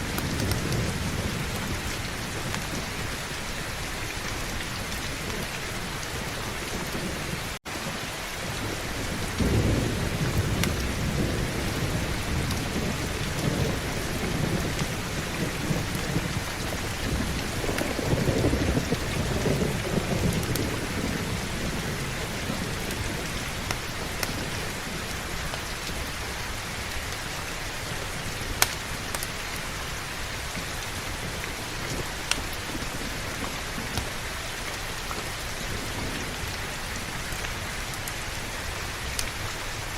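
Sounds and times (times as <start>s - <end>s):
thunder rumbling: 0.0s - 39.5s
heavy rain: 0.0s - 39.9s.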